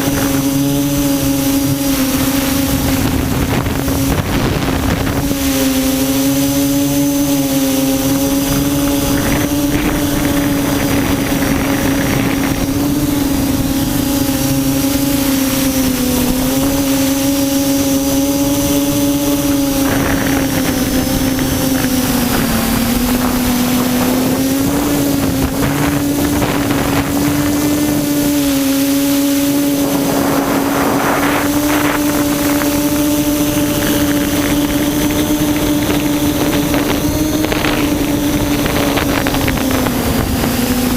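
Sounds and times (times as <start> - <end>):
quadcopter motors humming: 0.0 - 40.9
wind hiss on microphone: 0.0 - 40.9.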